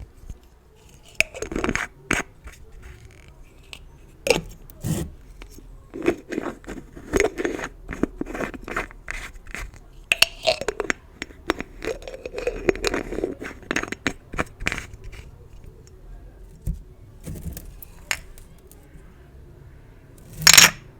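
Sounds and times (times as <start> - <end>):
gift bows scraping and crackling: 0.8 - 18.9, 20.2 - 20.8.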